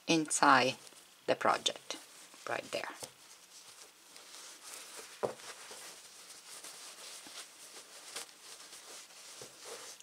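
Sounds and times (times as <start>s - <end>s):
fabric rustling: 0.4s - 10.0s.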